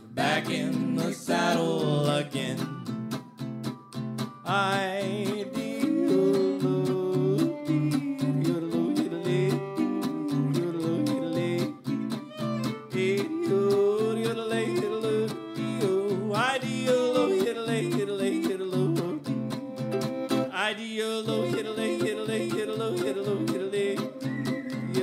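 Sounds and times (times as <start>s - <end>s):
rhythm guitar strums: 0.0s - 20.6s, 21.3s - 25.0s.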